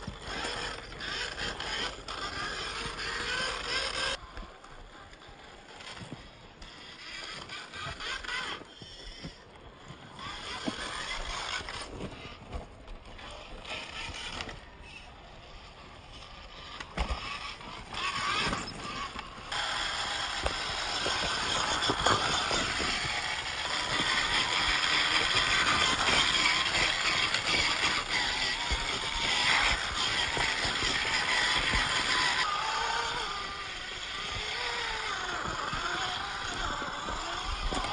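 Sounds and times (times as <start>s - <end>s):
toy car drivetrain running: 0.0s - 37.9s
tyres crackling on rocks and leaves: 0.0s - 37.9s.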